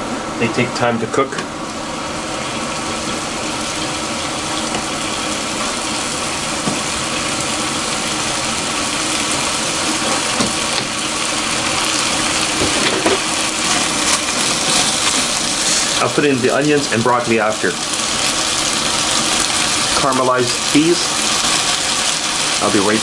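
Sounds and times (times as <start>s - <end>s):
vegetables sizzling as they fry: 1.5s - 23.0s.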